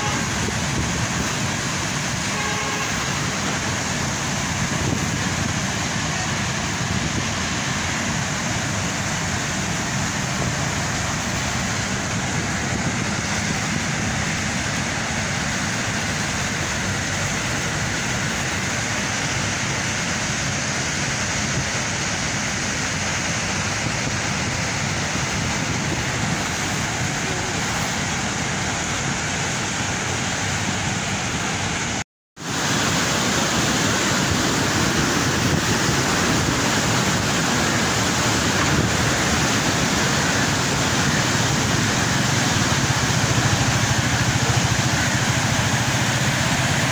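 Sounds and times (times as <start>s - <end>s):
floodwater rushing through gates: 0.0s - 46.9s.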